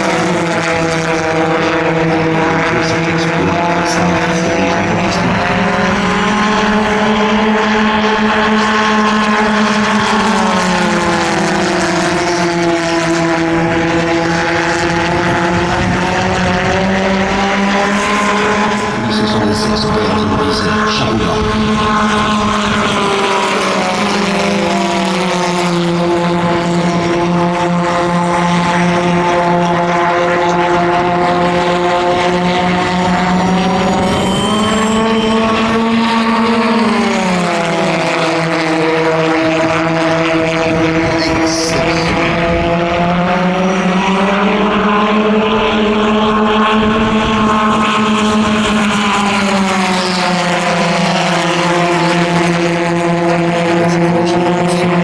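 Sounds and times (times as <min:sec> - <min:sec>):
pulsejet engines droning: 0:00.0 - 0:55.0.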